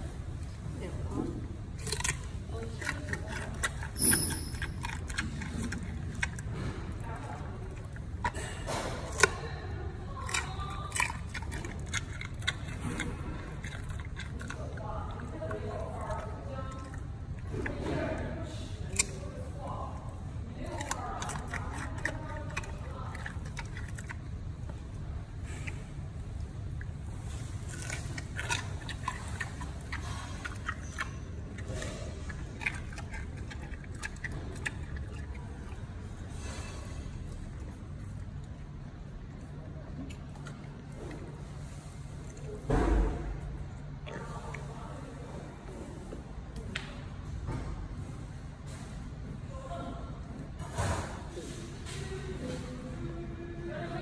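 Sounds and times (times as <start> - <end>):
steady low hum: 0.0 - 54.0
panda chewing food: 1.6 - 46.7.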